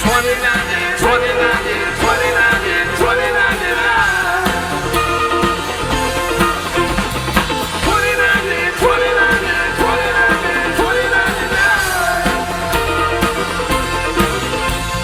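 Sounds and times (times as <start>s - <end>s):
person singing swooping melody: 0.0s - 5.9s, 7.8s - 14.4s
bass guitar: 0.0s - 15.0s
drums: 0.0s - 15.0s
rock and roll band playing: 0.0s - 15.0s.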